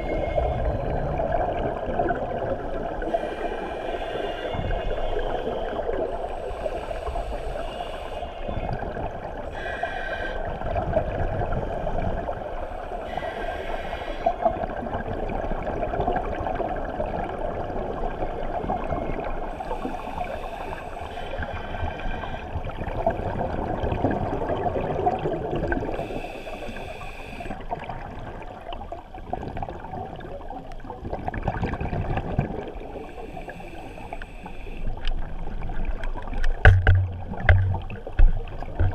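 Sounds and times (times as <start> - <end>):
rushing water underwater: 0.0 - 38.9.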